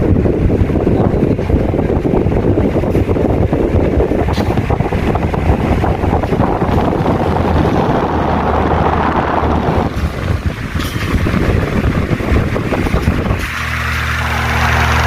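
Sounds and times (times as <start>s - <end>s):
fan wind buffeting microphone: 0.0s - 15.0s
low fan hum: 0.0s - 15.0s.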